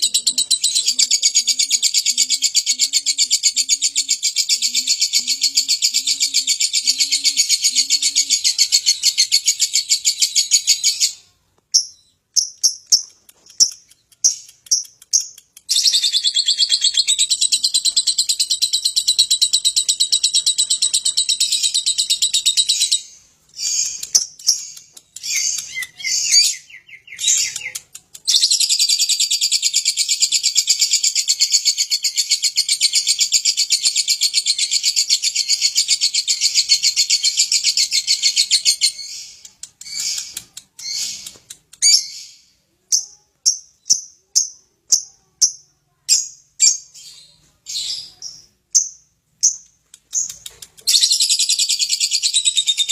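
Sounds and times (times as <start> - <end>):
bird chirps: 0.0 - 52.9
lovebird high-pitched chattering: 0.0 - 52.9.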